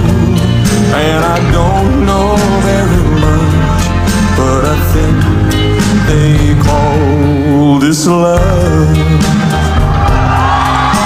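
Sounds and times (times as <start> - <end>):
live band playing slow ballad: 0.0 - 11.0.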